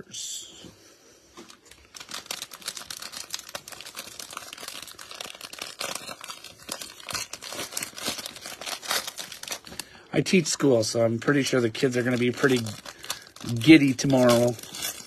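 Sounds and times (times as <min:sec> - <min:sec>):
plastic wrapper crackling: 0:01.4 - 0:10.6, 0:11.2 - 0:15.0.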